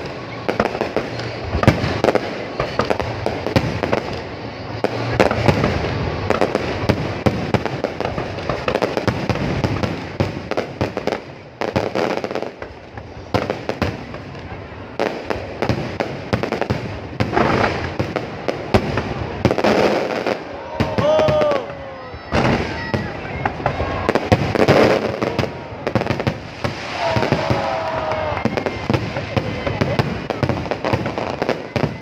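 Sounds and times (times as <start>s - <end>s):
fireworks bangs and crackles: 0.0s - 32.0s.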